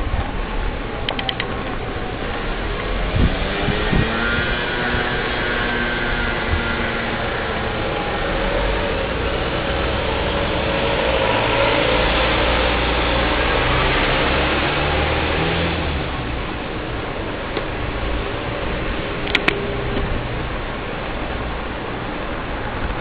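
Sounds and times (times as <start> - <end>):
bicycle camera rumble and rushing: 0.0 - 23.0
city street traffic: 0.0 - 23.0.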